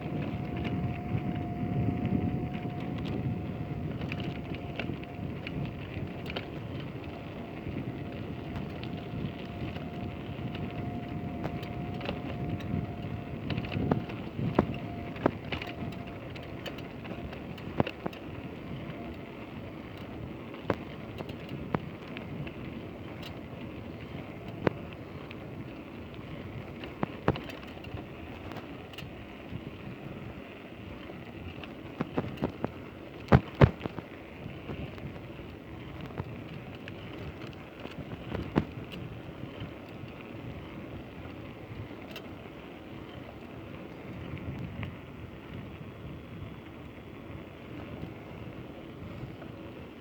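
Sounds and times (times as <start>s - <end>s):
road noise: 0.0s - 50.0s
thin steady whine: 0.0s - 50.0s
wind rushing over microphone: 0.0s - 50.0s.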